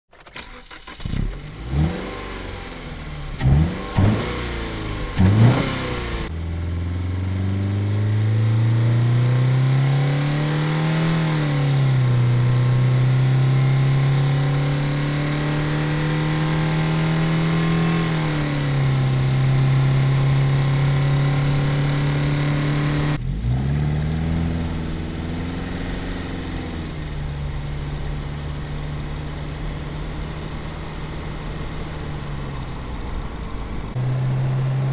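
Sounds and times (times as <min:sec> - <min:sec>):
car engine revving and accelerating: 0:01.2 - 0:34.9.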